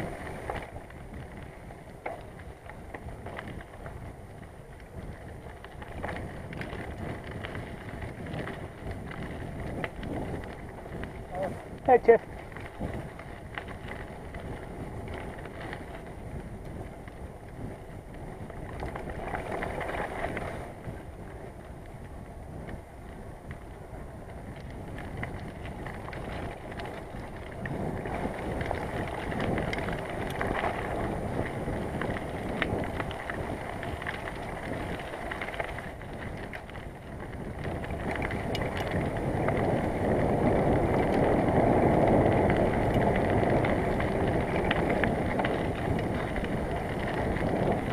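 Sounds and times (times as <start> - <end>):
bicycle rattles and clicks: 0.0 - 47.9
bicycle tyres rumbling: 0.0 - 47.9
wind buffeting microphone: 0.0 - 47.9.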